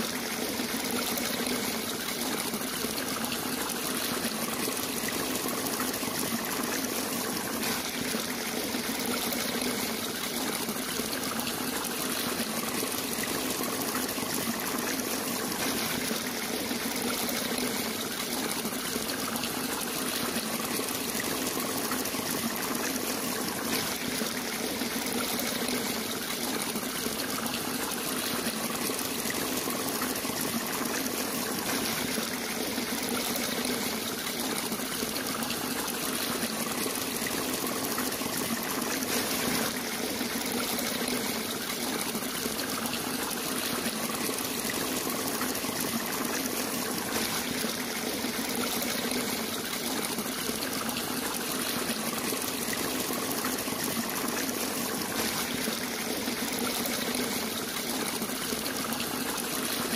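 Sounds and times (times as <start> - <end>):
shallow water trickling: 0.0 - 59.9.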